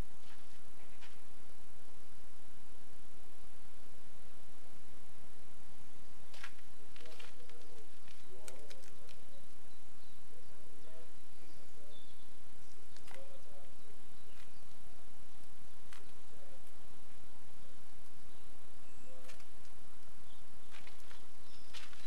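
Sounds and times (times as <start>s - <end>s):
steady low rumble: 0.0s - 22.0s
faint distant voices: 3.6s - 22.0s.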